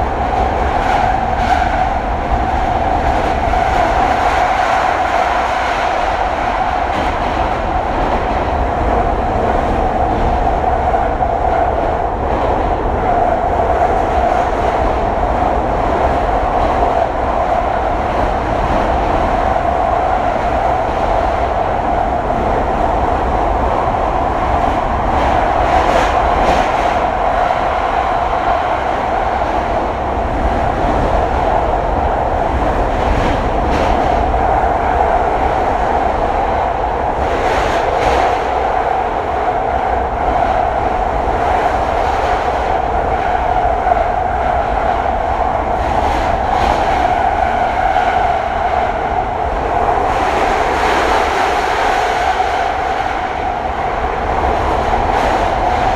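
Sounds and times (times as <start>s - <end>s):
train roar in tunnel: 0.0s - 55.9s.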